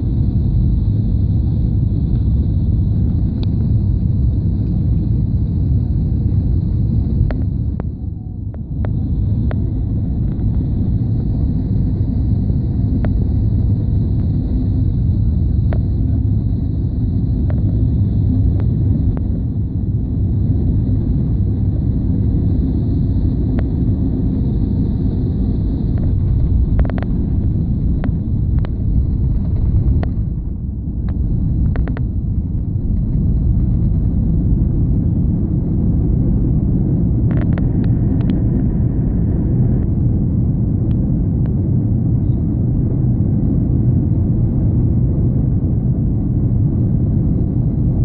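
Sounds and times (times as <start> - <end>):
jet engine rumble in cabin: 0.0 - 48.0.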